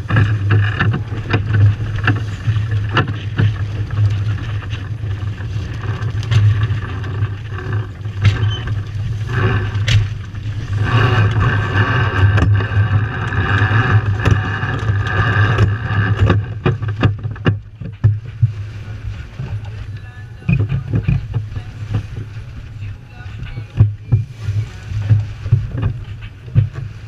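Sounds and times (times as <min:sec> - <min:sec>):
water splashing along a hull: 0:00.0 - 0:27.0
wind buffeting microphone: 0:00.0 - 0:27.0.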